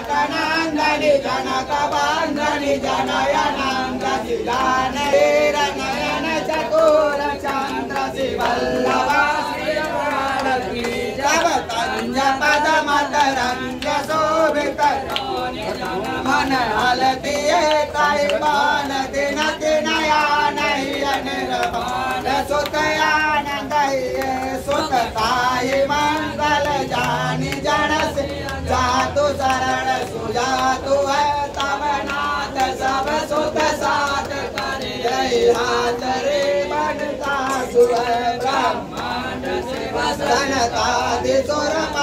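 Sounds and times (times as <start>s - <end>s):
voices chanting a devotional hymn: 0.0s - 42.0s.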